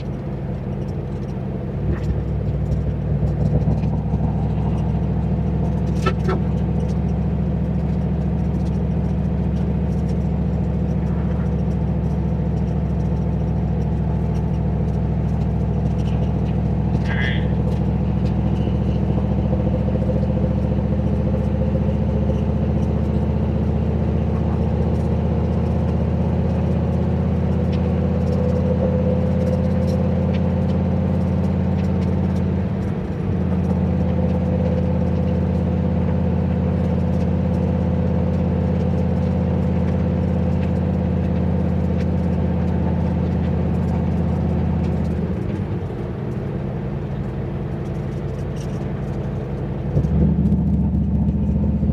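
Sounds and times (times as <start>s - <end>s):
car engine cruising: 0.0s - 51.9s
exhaust drone: 0.0s - 51.9s.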